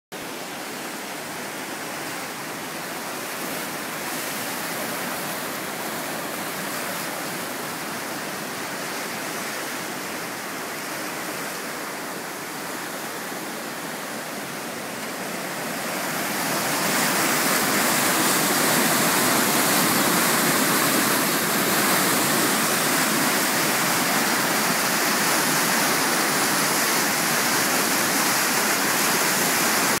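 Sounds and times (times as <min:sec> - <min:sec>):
river rushing over rocks: 0:00.2 - 0:30.0.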